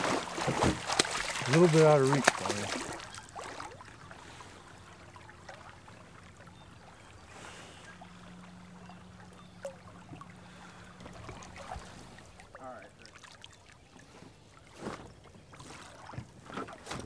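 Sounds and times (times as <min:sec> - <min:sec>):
faint steady hum: 0:00.0 - 0:15.9
river water lapping: 0:00.0 - 0:17.0.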